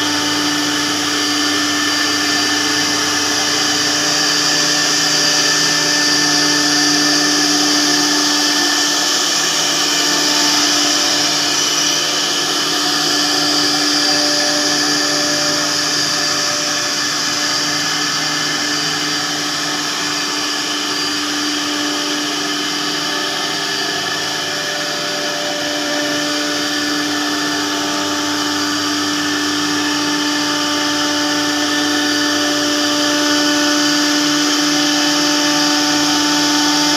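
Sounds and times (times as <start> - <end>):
router cutting hiss: 0.0 - 36.9
router spindle whine: 0.0 - 36.9.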